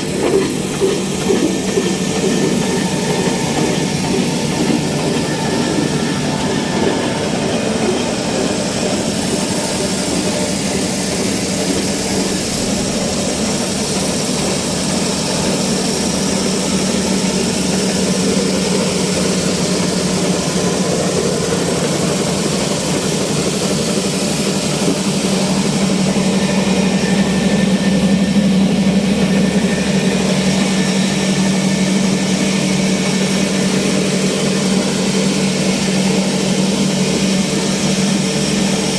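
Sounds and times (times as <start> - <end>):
stationary diesel engine running: 0.0 - 38.9.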